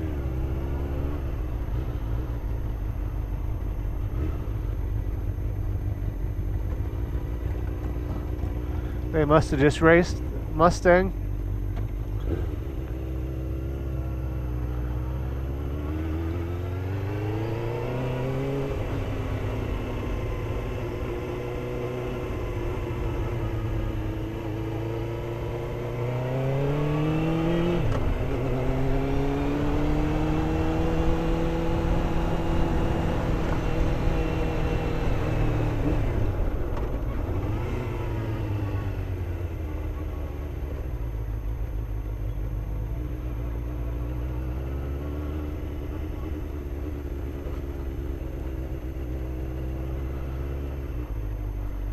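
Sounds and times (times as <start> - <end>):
motorcycle engine shifting gears: 0.0 - 51.9.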